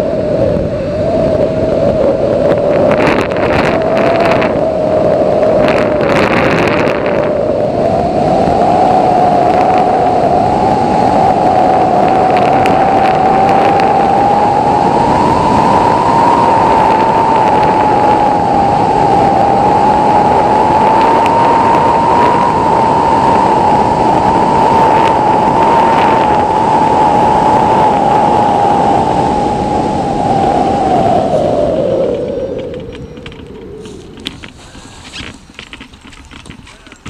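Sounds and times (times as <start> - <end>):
wind rushing with whistle: 0.0 - 37.0.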